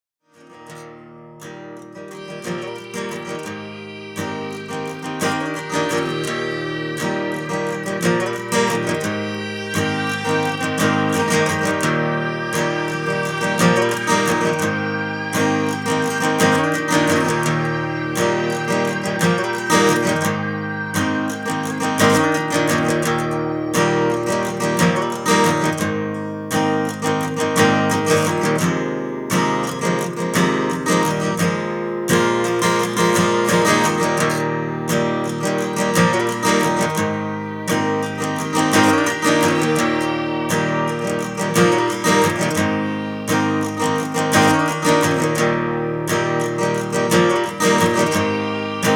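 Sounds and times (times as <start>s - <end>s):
acoustic guitar strumming: 0.3s - 48.9s.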